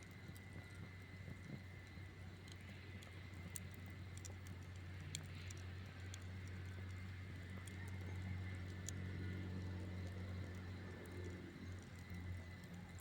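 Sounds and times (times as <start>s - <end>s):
campfire crackling: 0.0s - 13.0s
steady low hum: 0.0s - 13.0s.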